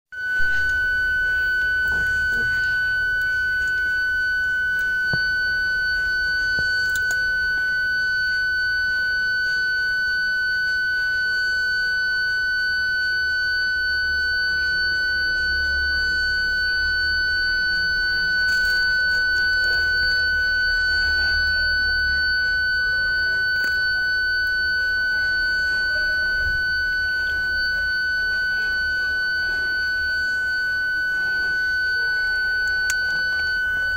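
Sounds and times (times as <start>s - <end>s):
parking sensor continuous tone: 0.1s - 33.9s.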